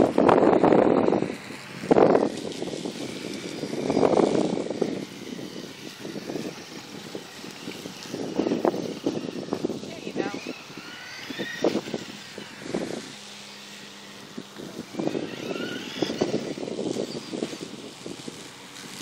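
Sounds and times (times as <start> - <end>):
model car electric motors whining: 0.0 - 19.0.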